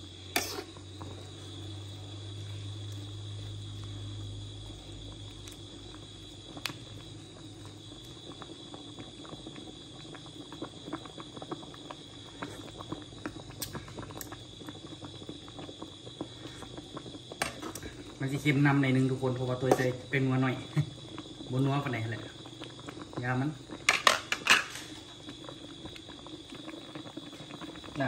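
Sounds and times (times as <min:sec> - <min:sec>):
cricket trill: 0:00.0 - 0:28.0
soup bubbling: 0:00.0 - 0:28.0.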